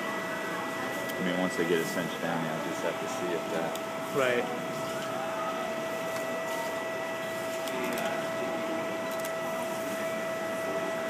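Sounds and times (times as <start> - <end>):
machine hum with steady whine: 0.0 - 11.0.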